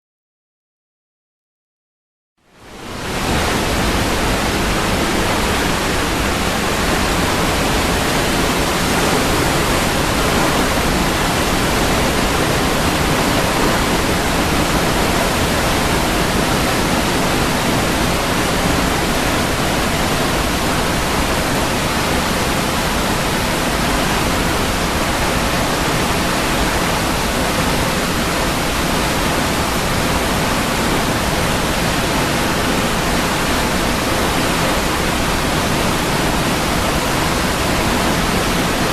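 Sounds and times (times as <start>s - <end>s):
waterfall rushing: 2.5s - 38.9s.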